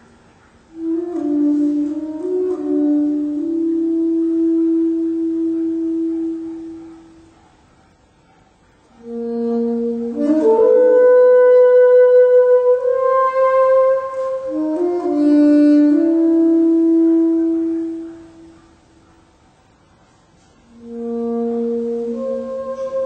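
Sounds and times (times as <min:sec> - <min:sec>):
alto saxophone solo: 0:00.0 - 0:07.2, 0:09.0 - 0:18.7, 0:20.4 - 0:23.0.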